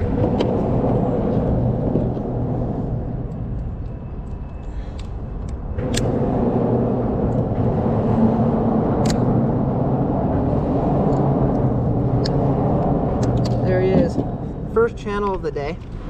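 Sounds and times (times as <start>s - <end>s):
low vehicle rumble with hum: 0.0s - 16.0s.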